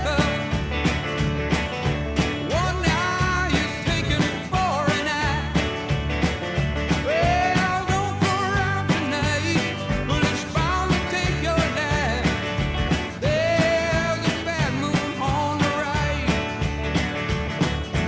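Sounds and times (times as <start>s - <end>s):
rock music with singing: 0.0s - 18.0s.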